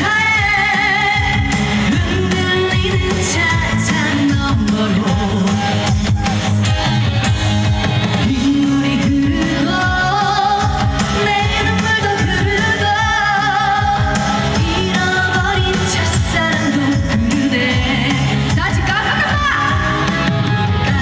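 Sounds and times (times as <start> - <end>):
woman singing with vibrato: 0.0 - 6.2, 8.2 - 20.0
band backing track: 0.0 - 21.0.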